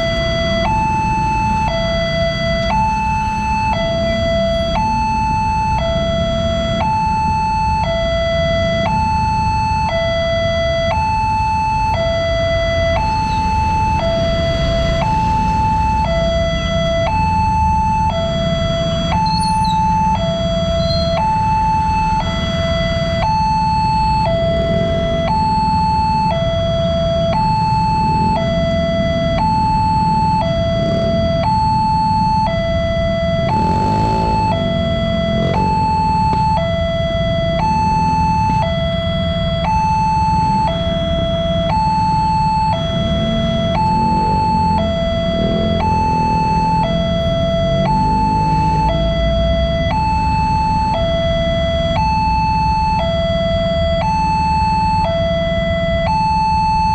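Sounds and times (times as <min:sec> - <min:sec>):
level-crossing two-tone alarm: 0:00.0 - 0:56.9.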